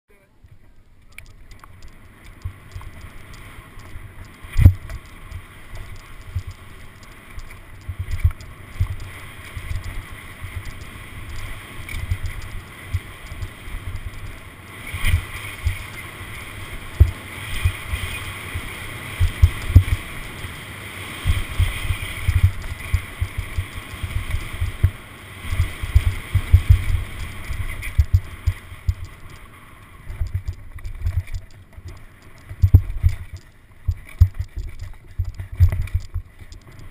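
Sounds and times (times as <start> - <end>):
tyre and wind rush: 1.7 - 36.9.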